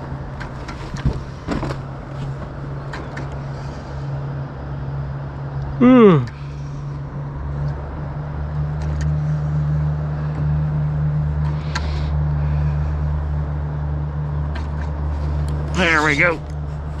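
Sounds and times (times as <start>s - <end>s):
low outdoor rumble with hiss: 0.0s - 17.0s.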